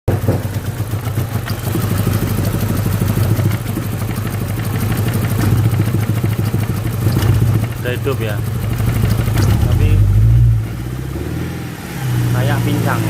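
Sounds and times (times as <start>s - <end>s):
car engine idling roughly: 0.1s - 11.1s, 11.7s - 13.0s.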